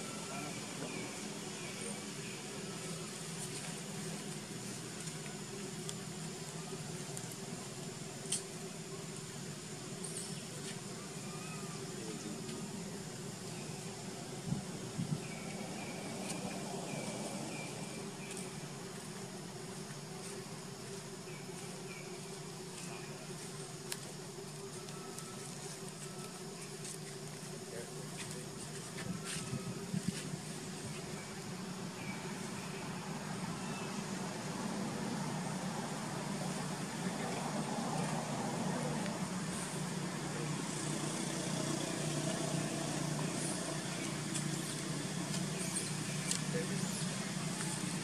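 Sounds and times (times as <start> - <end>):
distant motor traffic hum: 0.0 - 48.0
insects buzzing: 0.0 - 48.0.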